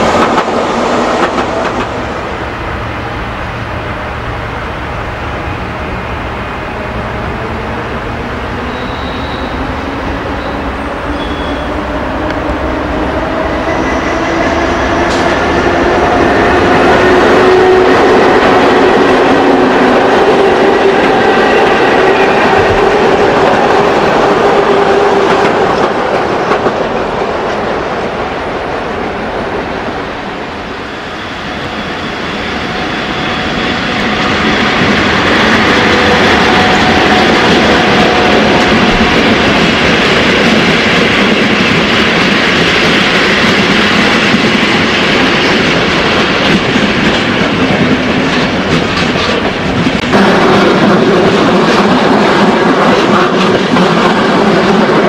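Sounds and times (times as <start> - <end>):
electric locomotive low hum: 0.0 - 55.0
train wheels rolling on rails: 0.0 - 55.0.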